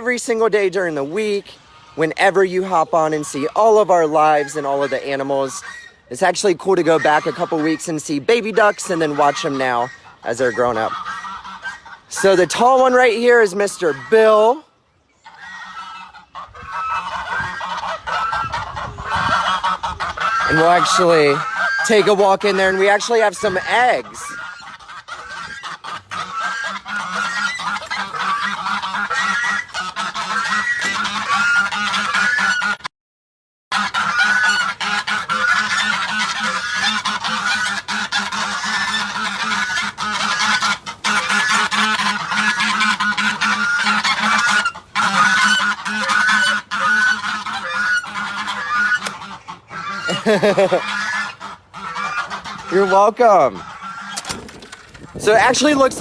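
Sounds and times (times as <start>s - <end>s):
geese honking: 0.0s - 32.9s, 33.7s - 56.0s.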